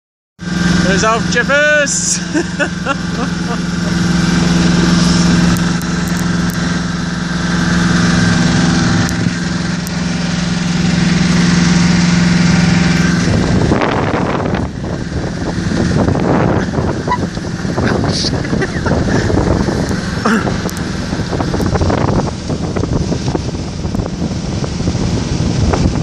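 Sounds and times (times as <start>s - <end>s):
boat engine humming: 0.4s - 26.0s
wind buffeting microphone: 3.3s - 26.0s.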